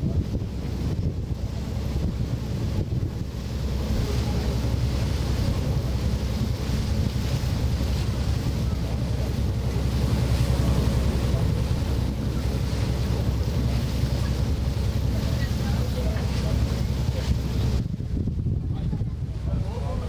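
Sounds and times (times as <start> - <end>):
boat engine droning: 0.0 - 20.0
water rushing along hull: 0.0 - 20.0
wind buffeting microphone: 0.0 - 20.0.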